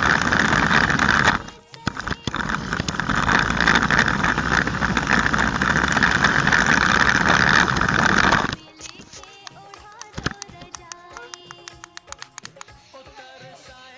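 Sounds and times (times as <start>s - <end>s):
toy car motor whirring: 0.0s - 13.0s.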